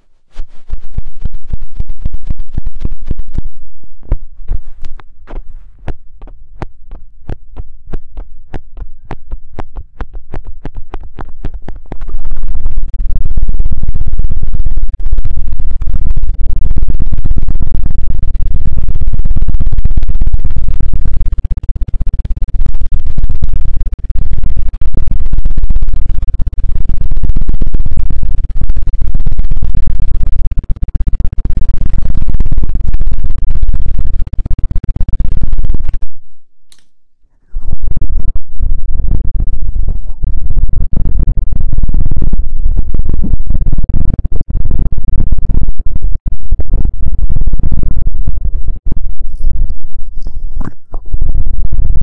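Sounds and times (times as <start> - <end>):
scratching and rubbing on microphone: 0.0 - 36.3, 37.3 - 52.0.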